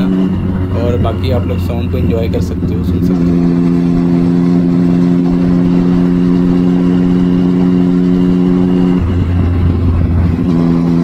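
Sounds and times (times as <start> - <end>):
lower hum: 0.0 - 11.0
motorcycle engine cruising: 0.0 - 11.0.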